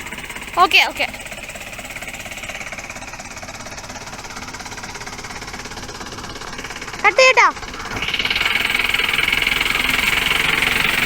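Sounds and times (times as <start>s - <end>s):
engine idling with rapid pulsing: 0.0s - 11.0s.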